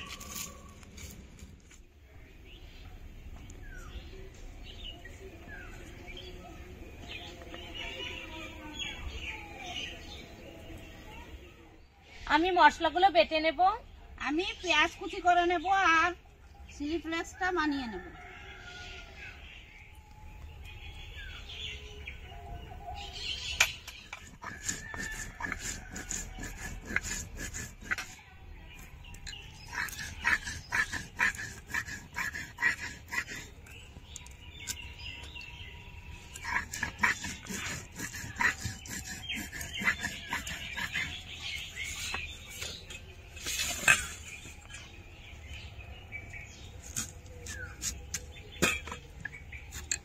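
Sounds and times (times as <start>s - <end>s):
birds chirping: 0.0s - 17.4s, 18.0s - 50.0s.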